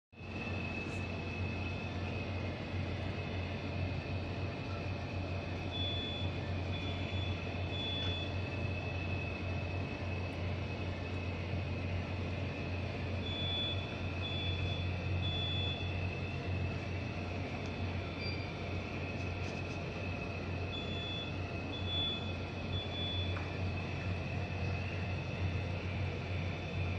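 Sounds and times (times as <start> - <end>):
low machinery hum: 0.2 - 26.9
thin high whine: 0.2 - 26.9.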